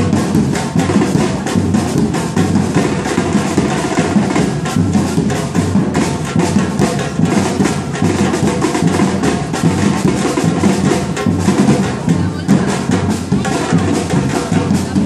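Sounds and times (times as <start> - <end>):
drum group playing: 0.0 - 15.0.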